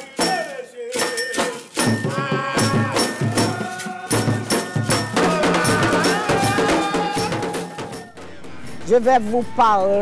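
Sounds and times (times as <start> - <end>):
hand-held shakers: 0.0 - 8.2
men singing together: 0.0 - 8.4
wooden clapper beat: 0.0 - 8.8.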